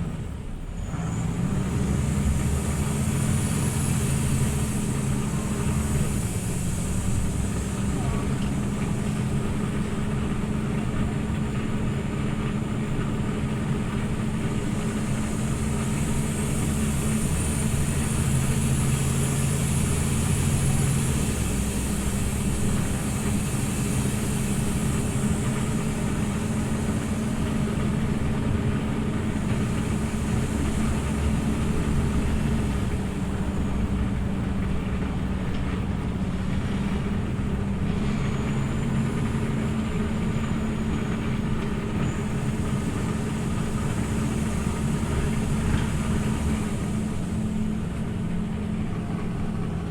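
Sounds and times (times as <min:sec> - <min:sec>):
bus engine humming: 0:00.0 - 0:49.9.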